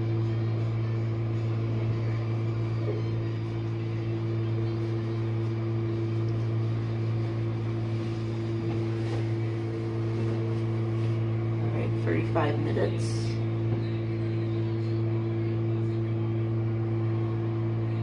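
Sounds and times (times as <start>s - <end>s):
dishwasher motor hum: 0.0s - 18.0s.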